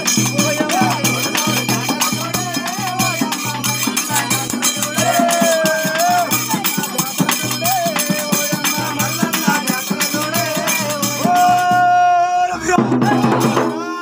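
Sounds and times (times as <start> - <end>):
fast dense percussion: 0.0 - 14.0.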